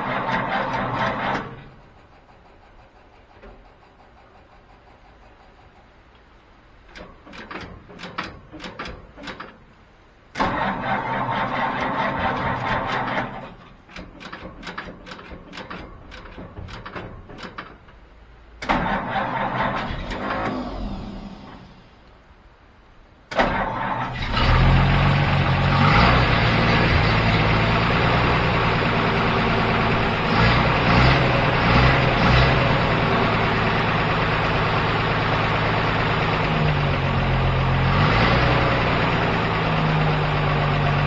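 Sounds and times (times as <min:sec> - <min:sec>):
engine cranking on starter: 0:00.0 - 0:05.4, 0:10.3 - 0:22.0, 0:23.3 - 0:41.0.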